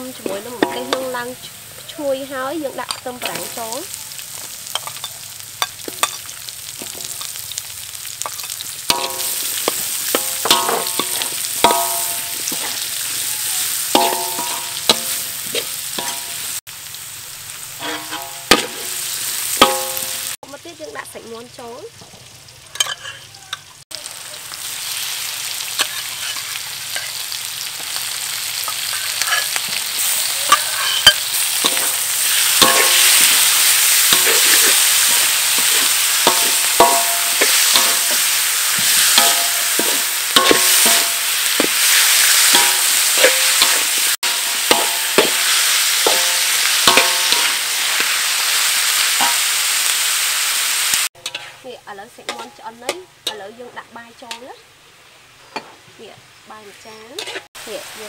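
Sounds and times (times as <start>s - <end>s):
metal spatula scraping wok: 0.0s - 7.6s, 8.2s - 16.6s, 17.6s - 20.4s, 22.7s - 23.7s, 25.6s - 28.0s, 28.6s - 49.6s, 51.2s - 54.5s, 56.8s - 57.5s
chicken sizzling in a wok: 0.0s - 58.0s.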